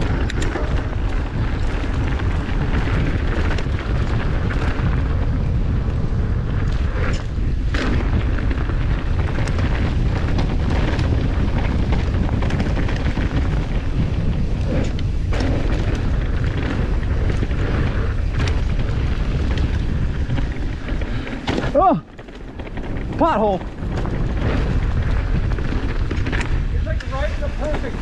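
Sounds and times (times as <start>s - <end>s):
bike rattling over bumps: 0.0s - 28.0s
tyre noise on dirt: 0.0s - 28.0s
wind buffeting microphone: 0.0s - 28.0s.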